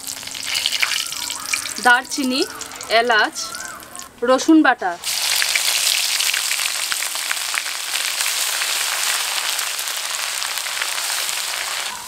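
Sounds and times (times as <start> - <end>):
garlic paste sizzling in hot oil: 0.0 - 4.1, 5.0 - 12.0.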